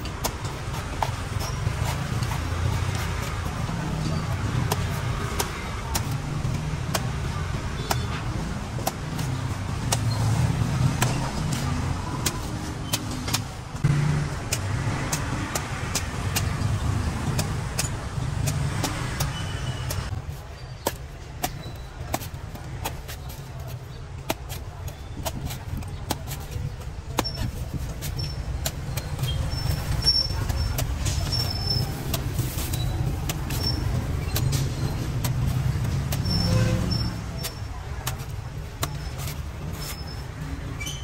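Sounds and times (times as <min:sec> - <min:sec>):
cleaver chopping coconut: 0:00.0 - 0:40.8
low traffic rumble: 0:00.0 - 0:41.0.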